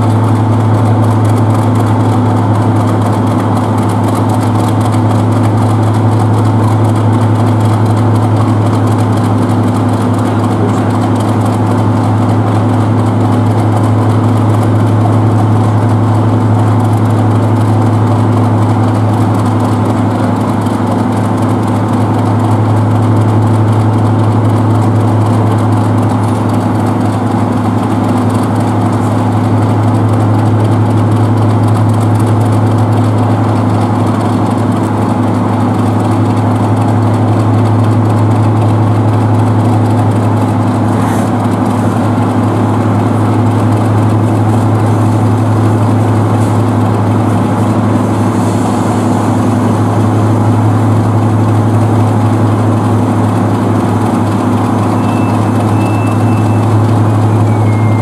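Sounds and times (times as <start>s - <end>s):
diesel locomotive engine idling: 0.0s - 58.0s.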